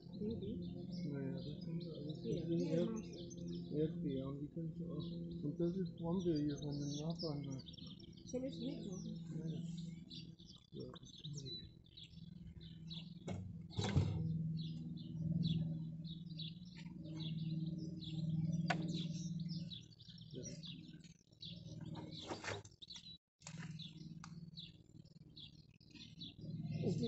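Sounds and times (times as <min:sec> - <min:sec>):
steady low hum: 0:00.0 - 0:22.3
small birds chirping: 0:00.0 - 0:27.0.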